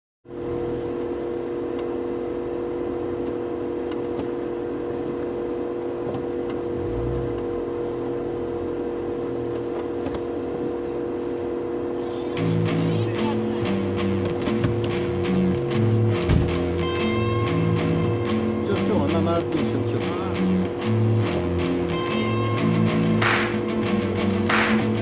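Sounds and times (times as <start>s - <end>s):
car engine running: 0.3s - 25.0s.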